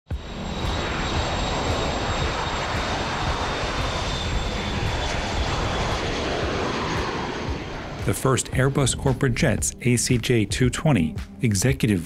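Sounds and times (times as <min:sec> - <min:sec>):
high steady engine whine: 0:00.1 - 0:10.7
aircraft engines roaring: 0:00.1 - 0:12.0.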